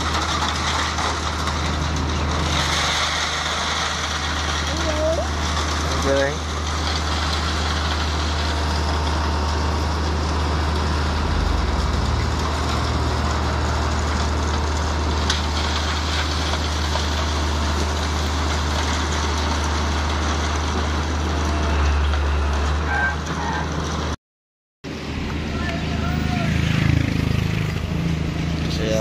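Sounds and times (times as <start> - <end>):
diesel engine drone: 0.0 - 24.2, 24.8 - 29.0.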